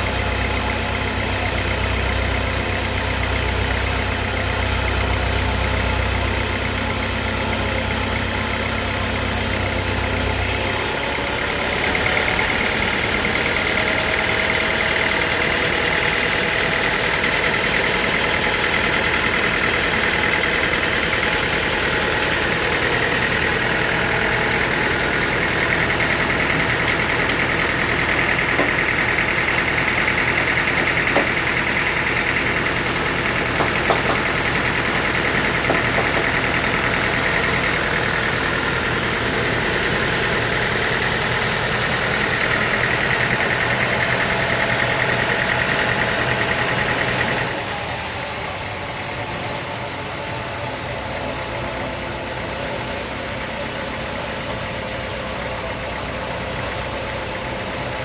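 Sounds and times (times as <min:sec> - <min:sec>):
sawmill motor drone with whine: 0:00.0 - 0:58.0.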